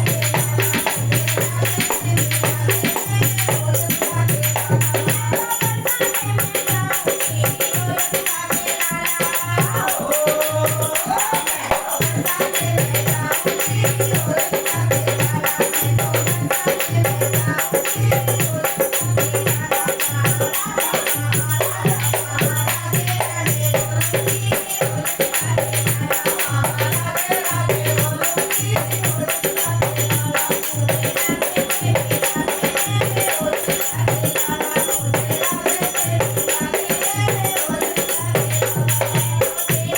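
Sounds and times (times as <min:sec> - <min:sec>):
dholak drum rhythm: 0:00.0 - 0:39.9
jingling hand percussion: 0:00.0 - 0:39.9.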